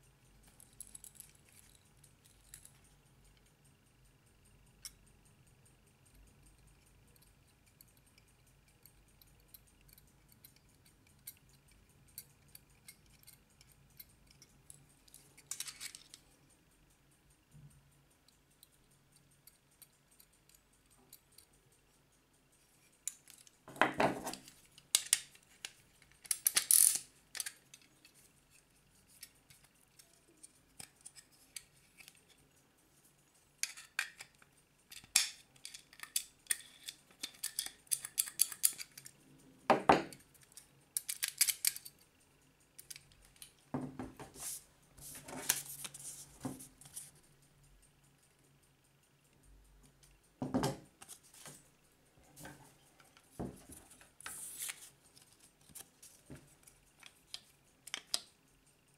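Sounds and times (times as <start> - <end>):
metal clock movement clicking: 0.0 - 43.8, 52.4 - 58.9.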